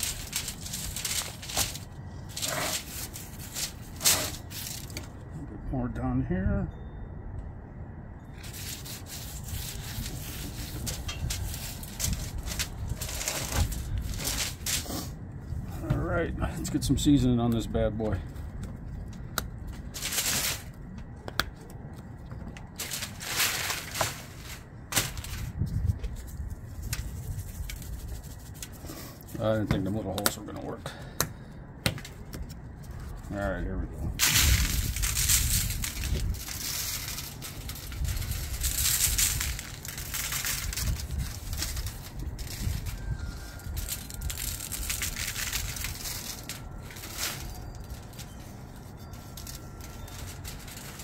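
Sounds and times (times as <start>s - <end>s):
low steady rumble: 0.0s - 51.0s.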